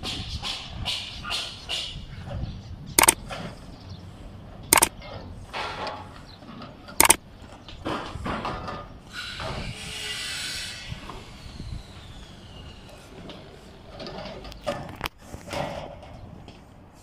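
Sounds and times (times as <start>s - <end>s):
construction work background: 0.0s - 17.0s.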